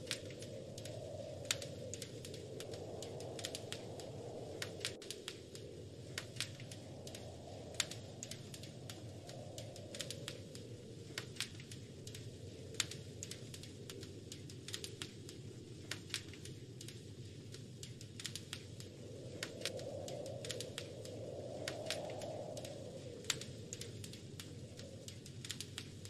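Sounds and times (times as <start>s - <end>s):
wind rushing: 0.0s - 16.6s, 18.4s - 26.0s
wood fire crackling: 0.0s - 26.0s.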